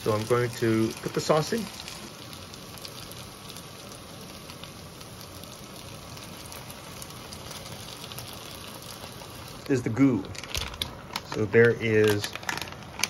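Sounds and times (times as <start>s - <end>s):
vegetables frying in oil: 0.0s - 13.0s.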